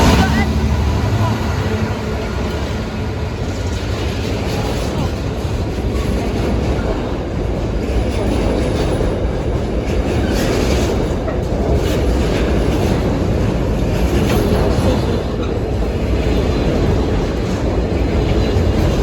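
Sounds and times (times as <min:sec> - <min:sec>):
freight train rumbling past: 0:00.0 - 0:19.0
wheels clickety-clack on rails: 0:00.0 - 0:19.0.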